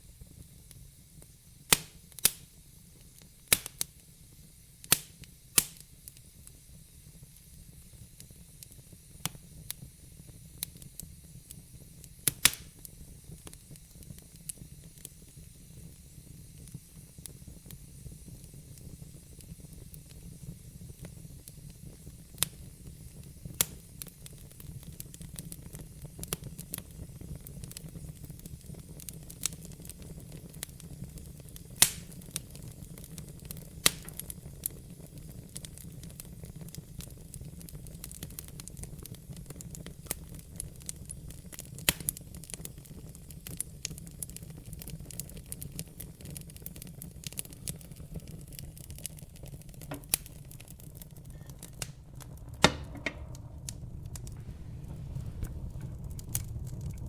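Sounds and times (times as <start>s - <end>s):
fire crackling and popping: 0.1s - 57.0s.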